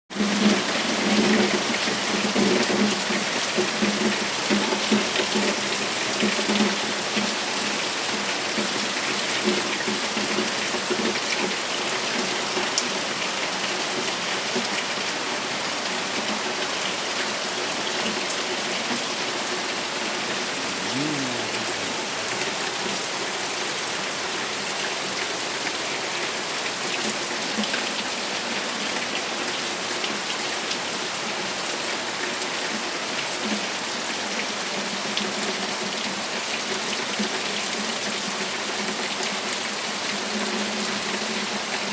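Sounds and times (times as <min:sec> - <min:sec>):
heavy rain: 0:00.1 - 0:41.9.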